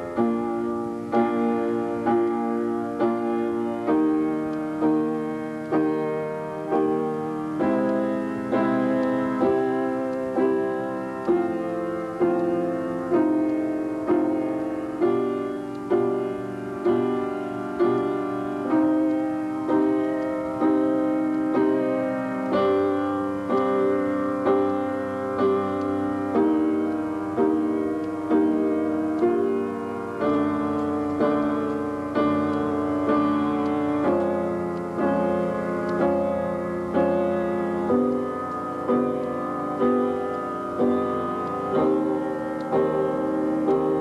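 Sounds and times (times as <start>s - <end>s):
instrumental chords ringing: 0.0s - 44.0s.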